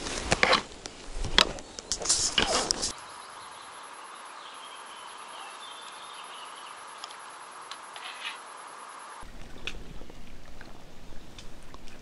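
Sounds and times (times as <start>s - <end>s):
steady even hiss: 0.0s - 12.0s
faint distant birdsong: 0.8s - 12.0s.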